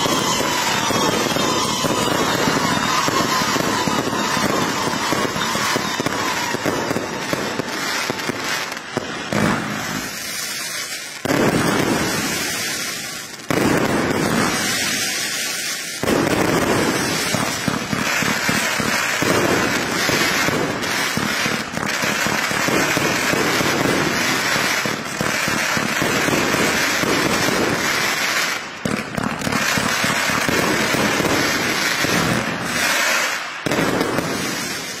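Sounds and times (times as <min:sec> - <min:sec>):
fireworks barrage: 0:00.0 - 0:35.0.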